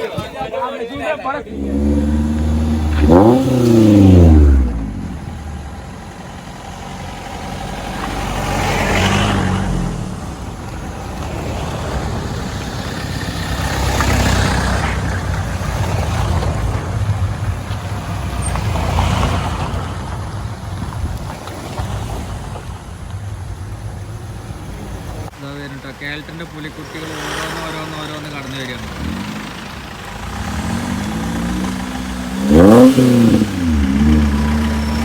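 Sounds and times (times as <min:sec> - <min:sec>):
vehicles driving past: 0:00.0 - 0:35.0
off-road engine revving: 0:01.0 - 0:35.0.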